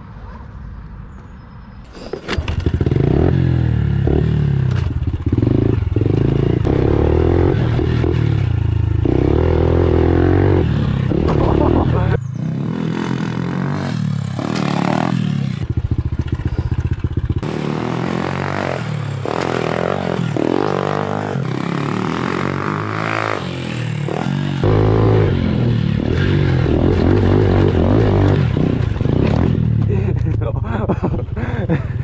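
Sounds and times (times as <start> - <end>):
dirt bike engine revving: 1.9 - 31.8.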